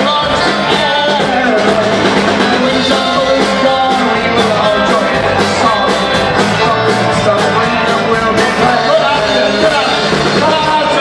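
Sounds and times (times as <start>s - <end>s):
folk-rock band playing: 0.0s - 11.0s
steady drum beat: 0.0s - 11.0s.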